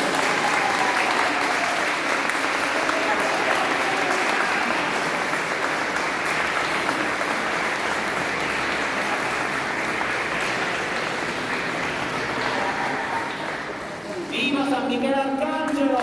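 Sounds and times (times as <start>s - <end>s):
congregation applauding: 0.0s - 14.5s.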